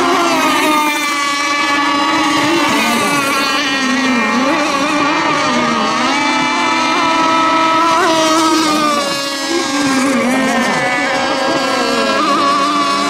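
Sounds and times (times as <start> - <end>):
racing boat motors whining: 0.0 - 13.0.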